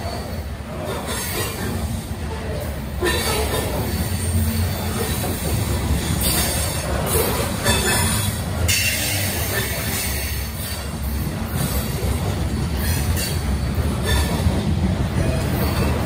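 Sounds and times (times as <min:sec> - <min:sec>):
freight train wheels rattling on rails: 0:00.0 - 0:16.0.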